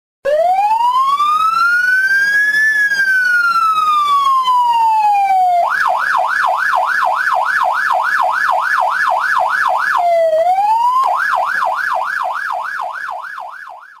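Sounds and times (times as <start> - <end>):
electronic police siren: 0.2 - 14.0.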